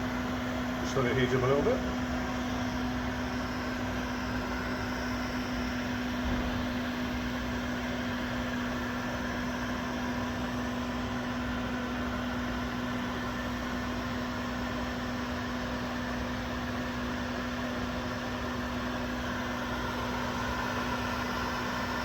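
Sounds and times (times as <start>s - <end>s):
heat gun fan blowing: 0.0s - 22.0s.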